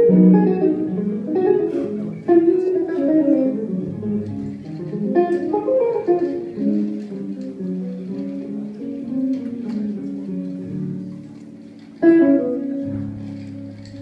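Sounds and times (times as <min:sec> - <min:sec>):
electric jazz guitar: 0:00.0 - 0:14.0.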